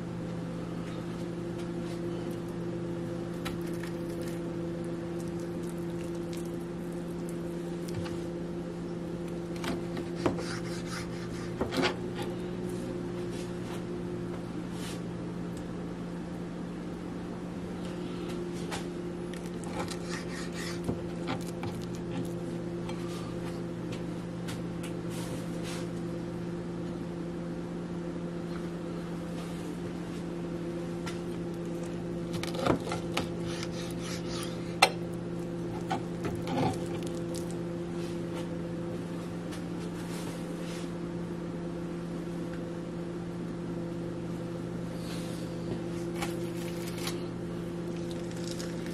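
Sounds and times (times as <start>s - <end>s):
low electrical appliance hum: 0.0s - 48.9s.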